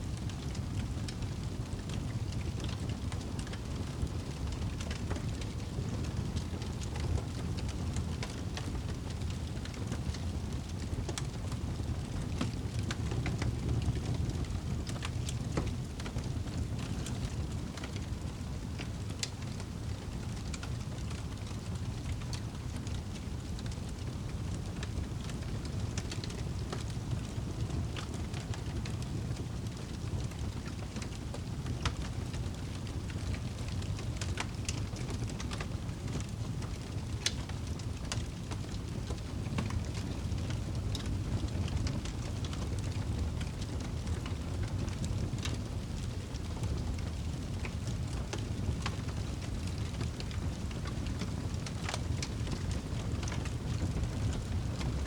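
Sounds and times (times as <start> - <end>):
campfire crackling: 0.2 - 55.0.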